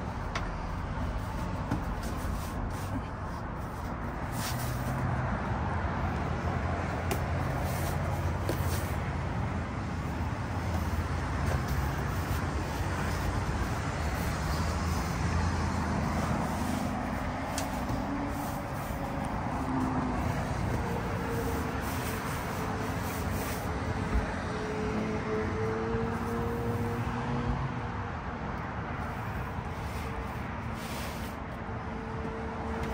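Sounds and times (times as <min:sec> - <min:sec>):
traffic rumble: 0:00.0 - 0:32.9.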